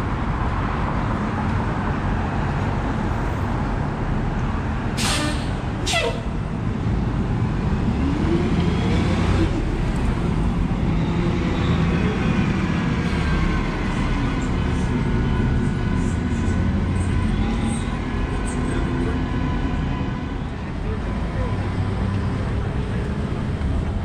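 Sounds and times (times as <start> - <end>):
bus engine rumble: 0.0 - 24.0
street traffic: 0.0 - 24.0.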